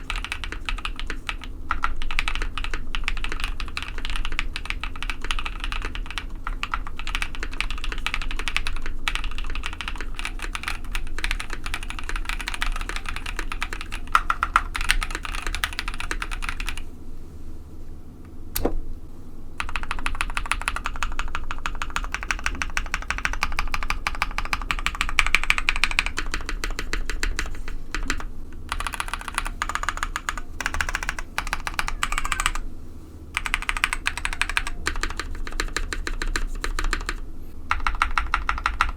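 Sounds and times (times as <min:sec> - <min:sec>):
typing on mechanical keyboard: 0:00.0 - 0:16.8, 0:19.6 - 0:32.6, 0:33.4 - 0:38.9.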